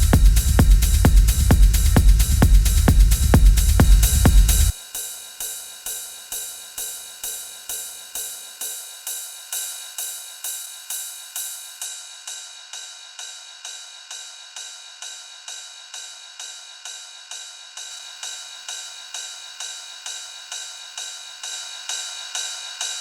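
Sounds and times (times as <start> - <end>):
techno hi-hat loop: 0.0 - 23.0.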